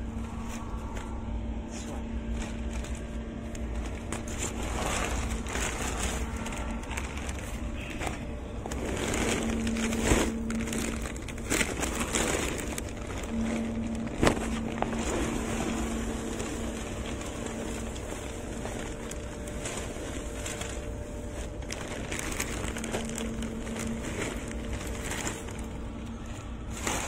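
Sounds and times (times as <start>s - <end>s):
pellets rattling into metal hopper: 2.3s - 26.0s, 26.6s - 27.0s.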